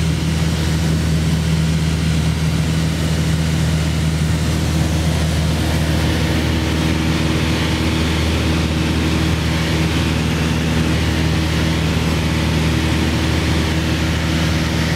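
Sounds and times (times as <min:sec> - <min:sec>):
light aircraft engine droning: 0:00.0 - 0:14.9.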